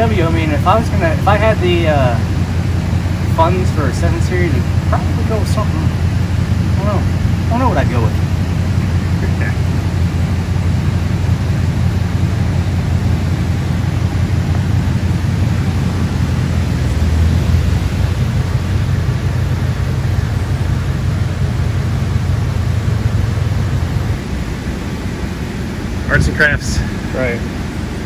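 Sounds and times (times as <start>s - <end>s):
even hiss: 0.0s - 28.0s
steady low rumble: 0.0s - 28.0s.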